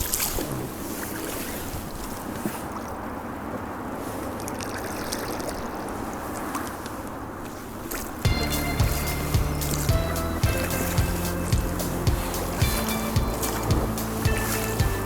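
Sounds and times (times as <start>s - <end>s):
gusty wind: 0.0s - 15.0s
water lapping against rubber boat: 0.0s - 15.0s.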